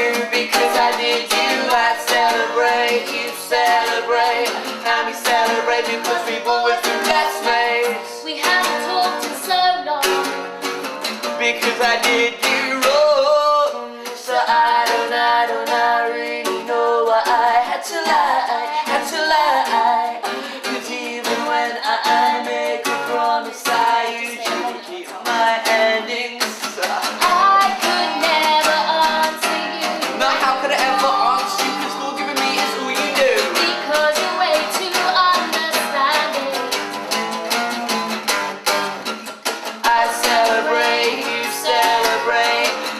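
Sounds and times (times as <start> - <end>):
man and woman singing: 0.0 - 10.3, 11.2 - 37.5, 39.7 - 42.9
acoustic guitar strumming: 0.0 - 42.9.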